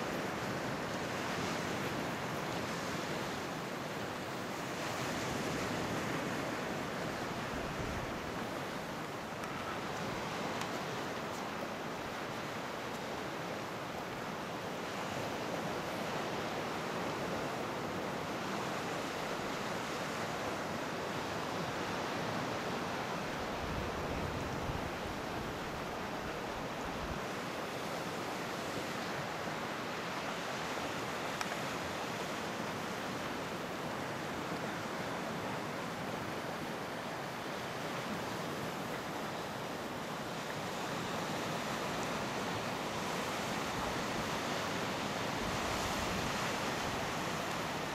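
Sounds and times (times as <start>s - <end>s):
sea surf: 0.0s - 47.9s
wind: 0.0s - 47.9s.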